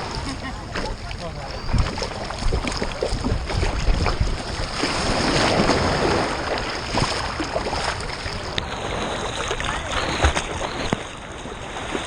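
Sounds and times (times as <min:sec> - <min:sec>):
surf noise: 0:00.0 - 0:12.0.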